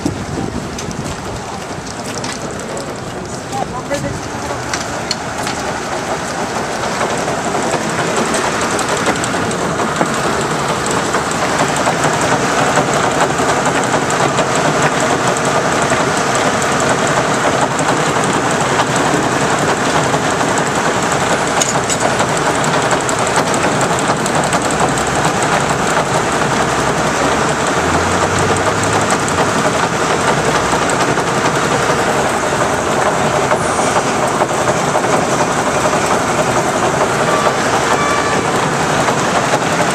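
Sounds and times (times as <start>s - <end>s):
steam engine and sawmill clatter: 0.0s - 39.9s.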